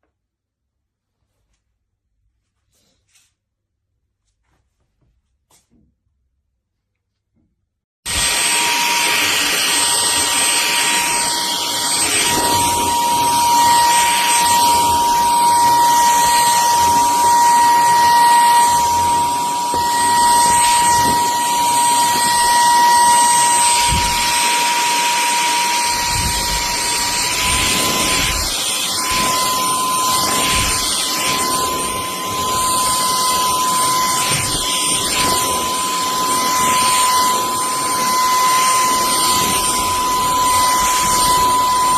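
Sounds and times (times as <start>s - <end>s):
vacuum motor whining: 8.1s - 41.9s.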